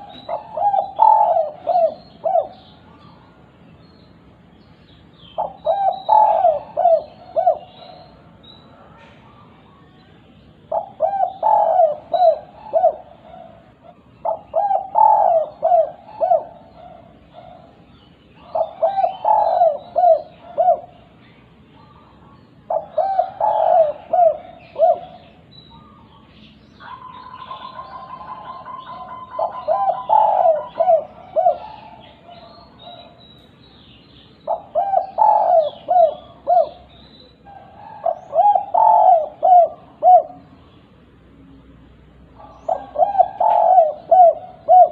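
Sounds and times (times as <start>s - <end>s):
dove cooing: 0.0s - 3.4s, 5.3s - 10.0s, 10.6s - 21.2s, 21.8s - 33.2s, 34.4s - 40.7s, 42.4s - 44.9s.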